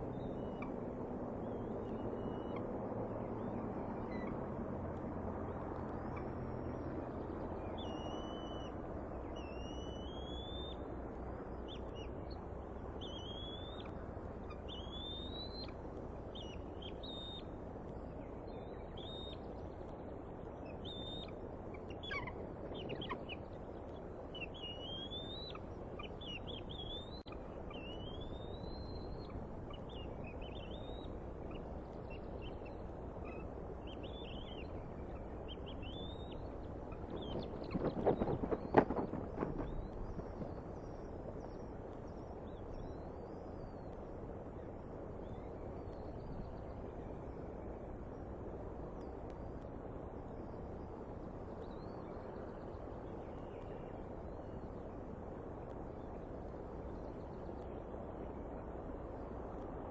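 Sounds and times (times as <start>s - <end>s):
low rushing background: 0.0s - 59.9s.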